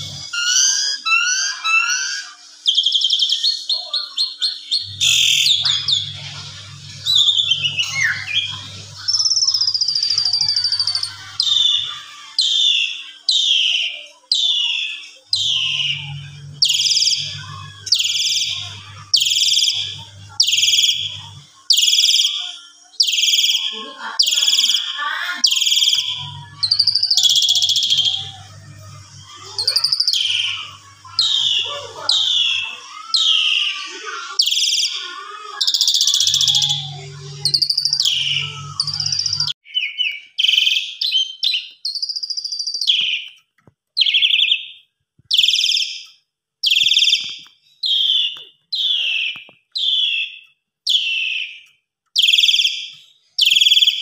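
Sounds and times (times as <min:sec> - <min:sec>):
starling singing: 0:00.0 - 0:43.4, 0:44.0 - 0:54.0.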